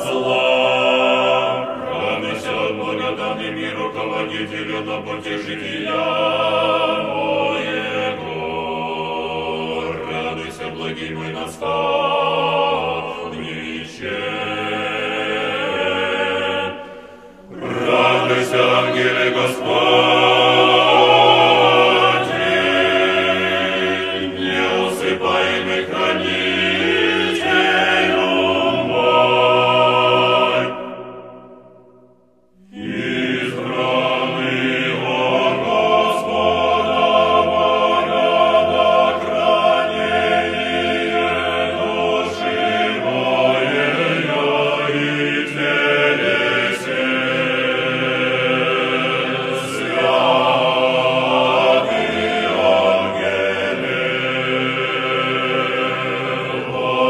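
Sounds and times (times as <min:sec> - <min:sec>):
choir singing chant: 0:00.0 - 0:57.0.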